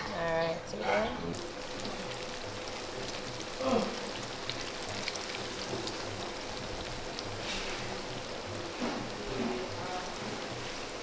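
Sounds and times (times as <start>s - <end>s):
chicken deep-frying in oil: 1.3s - 11.0s.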